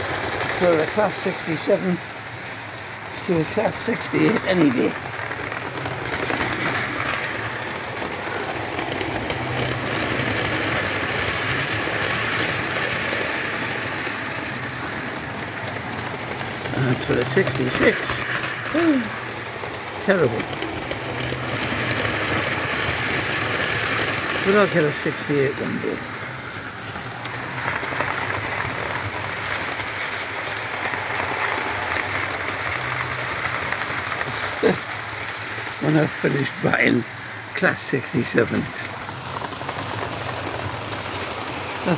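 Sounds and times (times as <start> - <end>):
model train motor whirring: 0.0 - 41.9
model train wheels rumbling on rails: 0.0 - 41.9.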